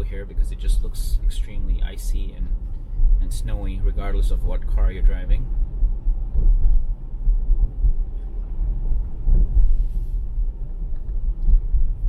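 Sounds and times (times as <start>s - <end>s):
tyres rumbling on icy road: 0.0s - 12.0s.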